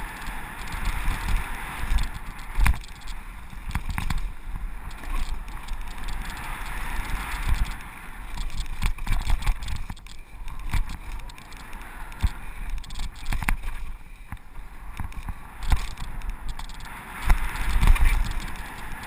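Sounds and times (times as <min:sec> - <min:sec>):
bike knocking and rattling: 0:00.0 - 0:19.0
tyre and wind rush: 0:00.0 - 0:19.0.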